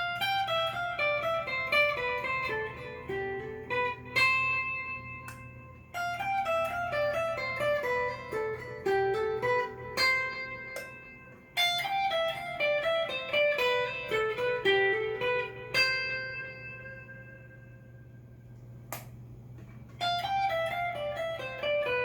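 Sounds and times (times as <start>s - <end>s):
clean electric guitar picking: 0.0s - 22.0s.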